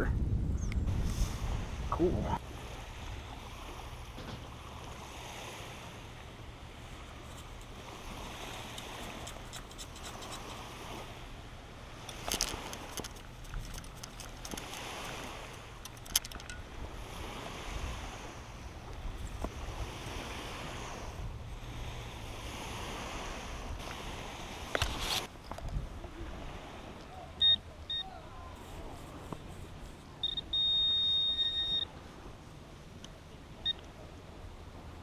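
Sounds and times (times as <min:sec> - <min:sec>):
water washing around a kayak: 0:00.9 - 0:15.8, 0:16.7 - 0:35.0.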